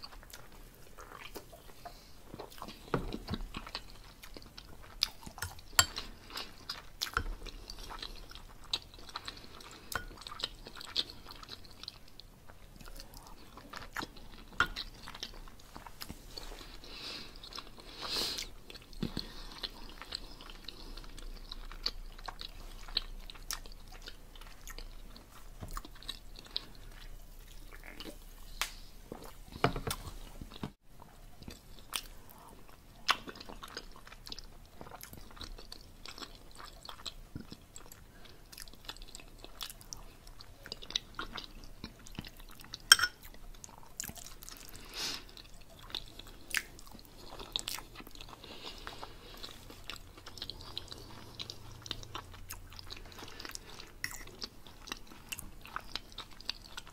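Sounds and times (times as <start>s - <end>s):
person chewing and lip smacking: 0.0s - 56.9s.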